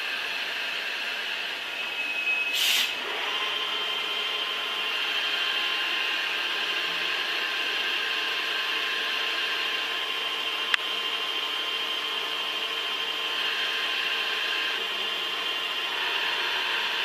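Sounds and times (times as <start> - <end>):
machine tool hissing whine: 0.0 - 17.0.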